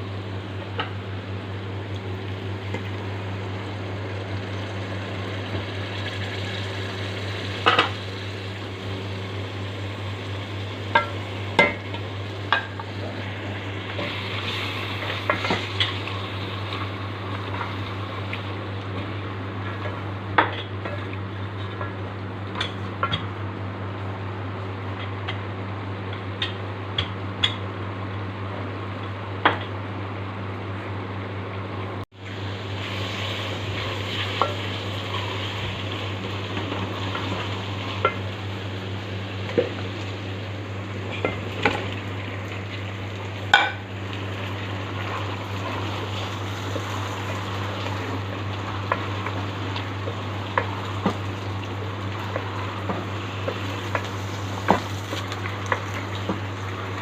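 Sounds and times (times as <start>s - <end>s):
steady low hum: 0.0s - 57.0s
food sizzling in oil: 0.7s - 23.2s, 32.2s - 57.0s.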